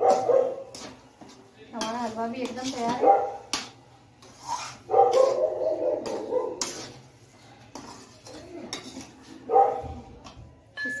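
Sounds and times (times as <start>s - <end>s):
metal spatula scraping a pan: 0.0s - 10.4s.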